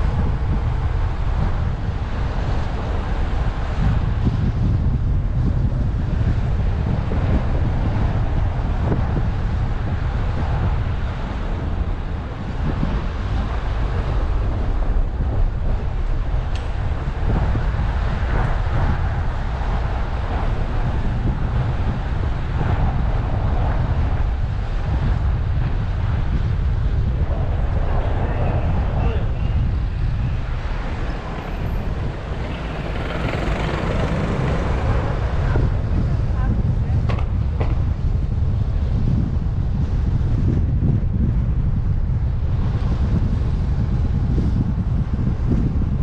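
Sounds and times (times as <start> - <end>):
car road noise: 0.0 - 46.0
wind buffeting microphone: 0.0 - 46.0.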